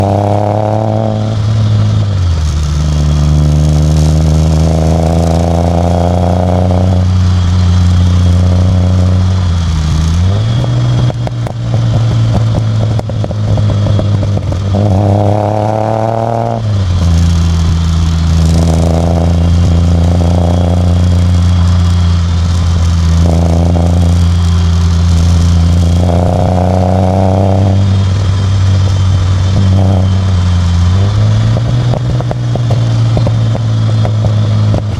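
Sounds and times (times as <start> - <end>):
car exhaust engine note: 0.0 - 34.9
exhaust crackling and popping backfire: 0.0 - 34.9.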